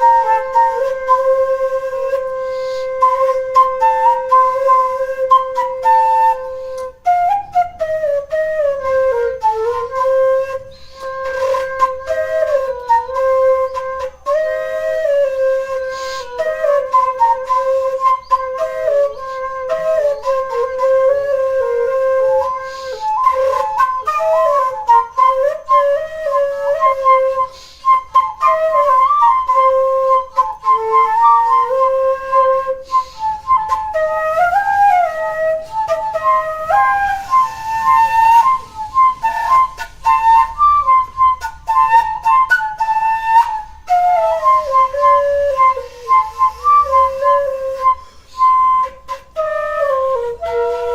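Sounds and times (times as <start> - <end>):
flute-like wind instrument melody: 0.0 - 50.9.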